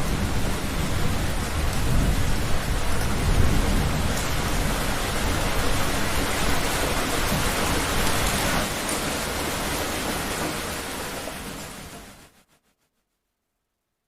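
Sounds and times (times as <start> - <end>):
heavy rain pouring: 0.0 - 12.4.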